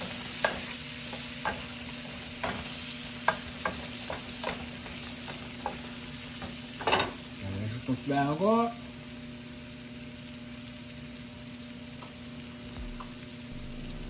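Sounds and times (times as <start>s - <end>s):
potatoes sizzling in a skillet: 0.0s - 14.0s.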